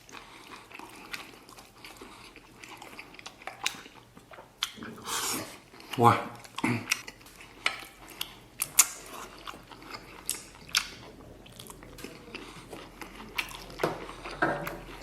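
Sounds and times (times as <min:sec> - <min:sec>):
chewing and wet mouth noises: 0:00.0 - 0:15.0.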